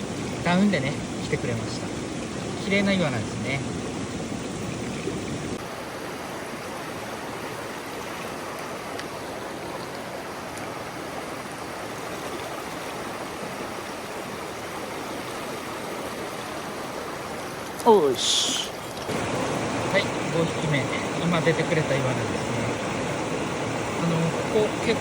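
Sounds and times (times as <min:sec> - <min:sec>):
stream water flowing over rocks: 0:00.0 - 0:25.0.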